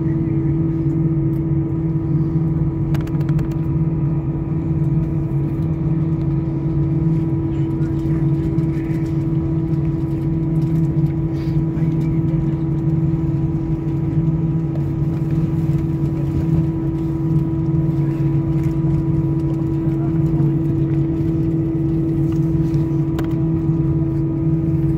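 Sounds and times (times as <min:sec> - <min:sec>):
jet airliner cabin drone: 0:00.0 - 0:24.9.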